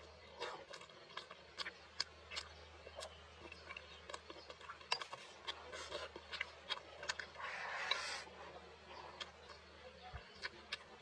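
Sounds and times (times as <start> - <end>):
low steady hum: 0.0 - 11.0
mouth chewing food: 0.0 - 11.0.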